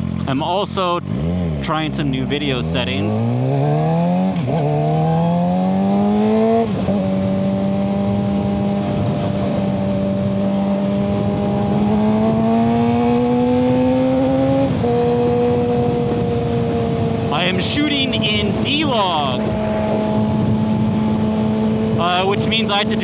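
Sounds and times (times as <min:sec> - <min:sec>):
motorcycle engine revving: 0:01.0 - 0:22.9.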